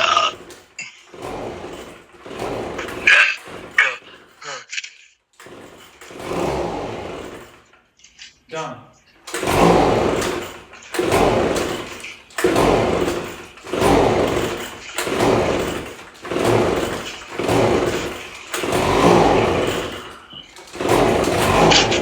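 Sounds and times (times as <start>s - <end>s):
recoil starter cord whirring: 0.0s - 8.3s, 9.1s - 22.0s
leaf blower engine cranking: 0.0s - 8.5s, 9.1s - 22.0s.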